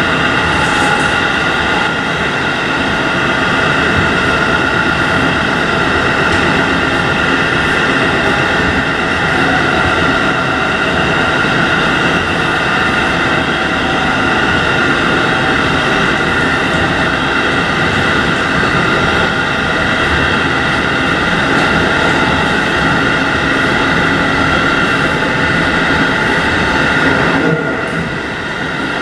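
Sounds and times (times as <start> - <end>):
high whining tones: 0.0 - 29.0
train running rumble and hiss: 0.0 - 29.0.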